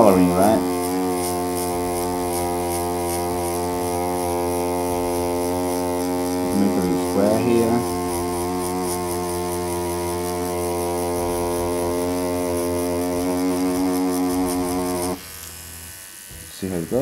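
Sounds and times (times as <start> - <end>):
tattoo machine buzzing: 0.0 - 17.0.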